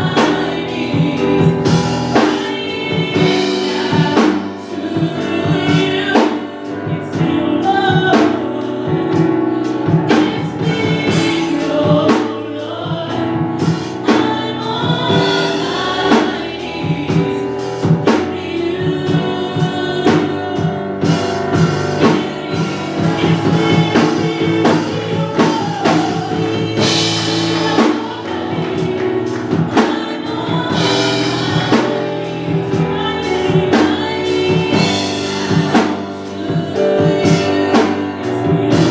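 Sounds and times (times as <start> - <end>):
drum kit beat: 0.0 - 38.9
group singing gospel: 0.0 - 38.9.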